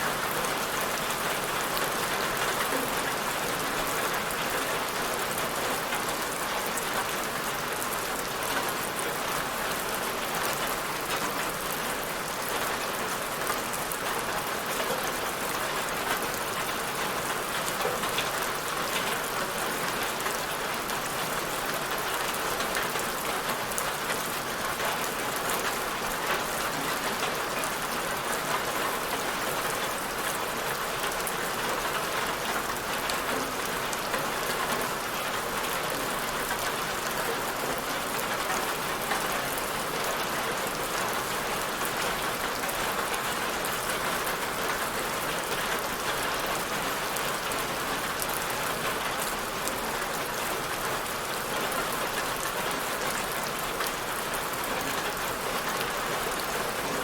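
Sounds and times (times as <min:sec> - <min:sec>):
patter of raindrops: 0:00.0 - 0:57.0.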